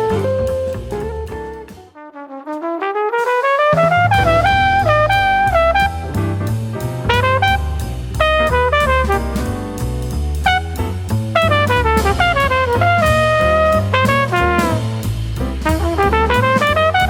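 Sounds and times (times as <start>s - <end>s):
jazz with bass and drums: 0.0s - 17.0s.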